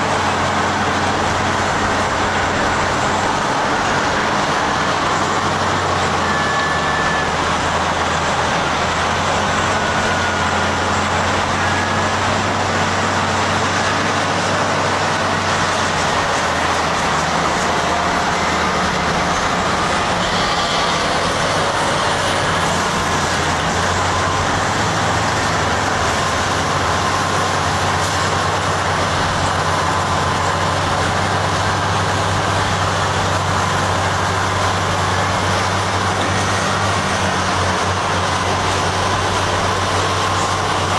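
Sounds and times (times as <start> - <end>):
heavy diesel engines droning: 0.0 - 40.9.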